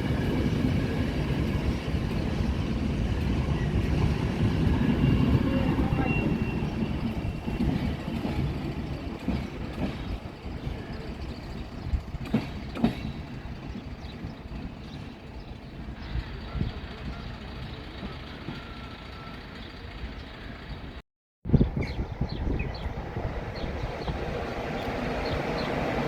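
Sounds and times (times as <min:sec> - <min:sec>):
train rumbling: 0:00.0 - 0:21.0, 0:21.6 - 0:26.0.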